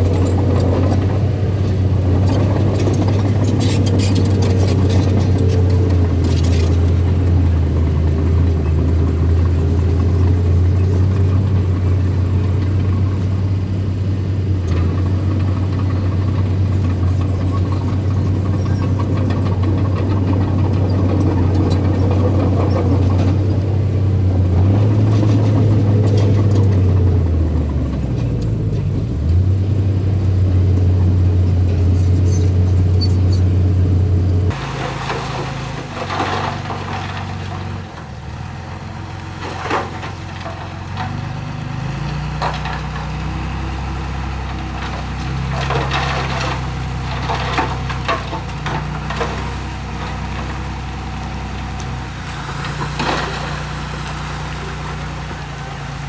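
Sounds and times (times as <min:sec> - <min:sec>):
bulldozer engine running under load: 0:00.0 - 0:56.0
engine clatter: 0:00.0 - 0:56.0.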